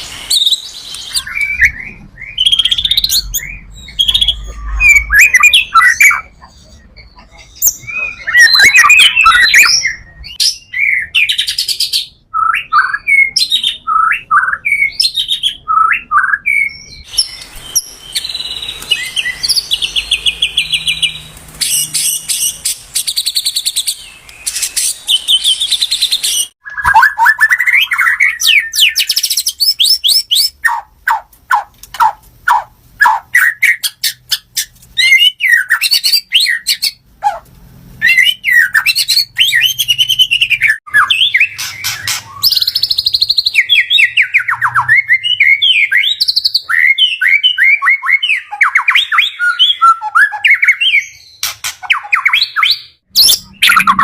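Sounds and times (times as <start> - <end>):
songbird singing trills and whistles: 0.0 - 37.4, 38.0 - 54.0.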